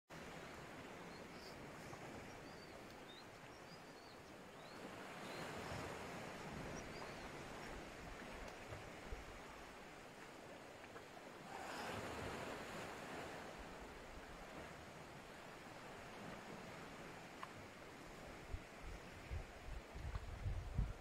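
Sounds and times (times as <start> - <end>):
faint surf on rocks: 0.1 - 21.0.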